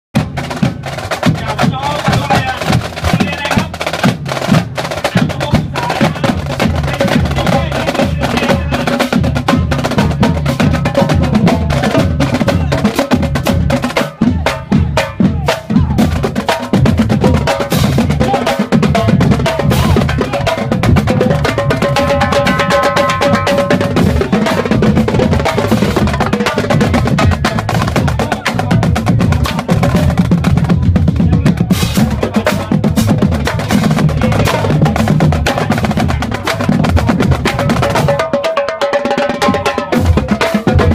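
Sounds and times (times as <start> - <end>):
marching drumline cadence: 0.1 - 40.9.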